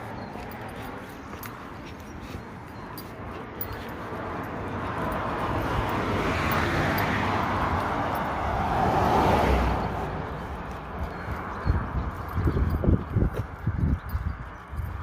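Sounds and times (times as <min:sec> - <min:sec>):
road vehicle passing by: 0:00.0 - 0:15.0.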